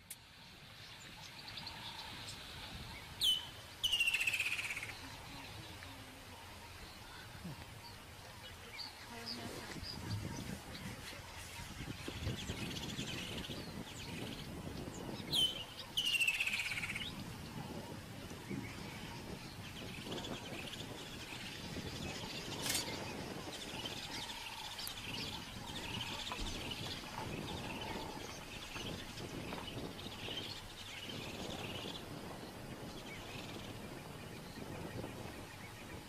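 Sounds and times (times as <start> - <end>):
birds chirping and calling: 0.2 - 36.0.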